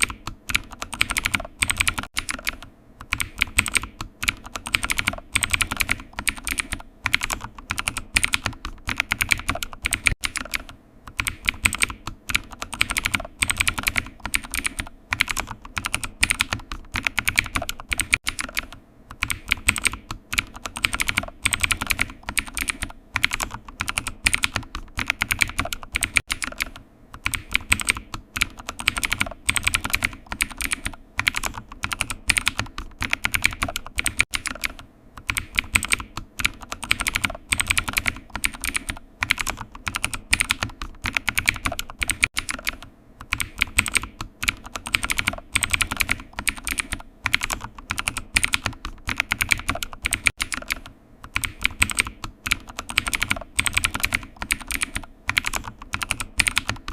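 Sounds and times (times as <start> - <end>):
computer keyboard typing: 0.0 - 56.9.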